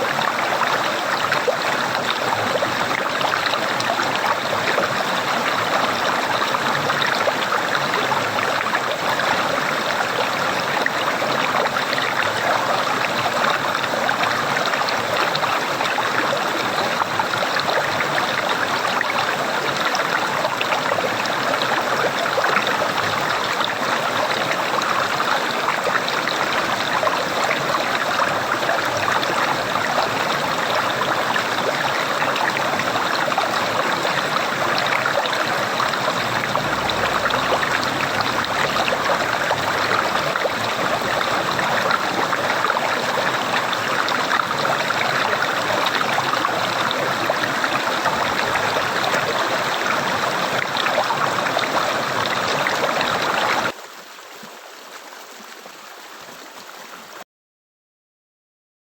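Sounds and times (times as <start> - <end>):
running water gurgling: 0.0 - 57.2.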